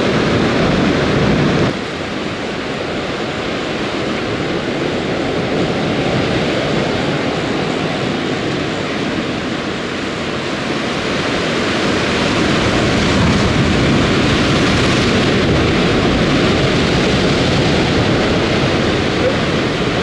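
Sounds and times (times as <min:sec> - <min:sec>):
surf breaking on rocks: 0:00.0 - 0:20.0.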